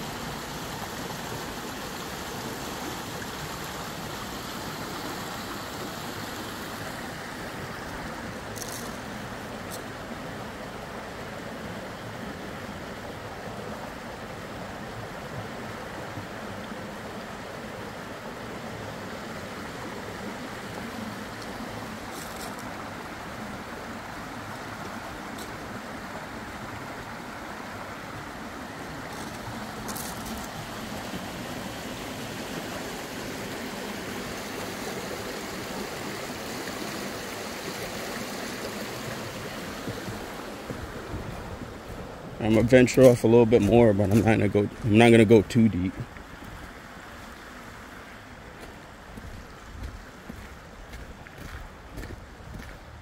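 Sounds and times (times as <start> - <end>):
rocky stream running: 0.0 - 53.0.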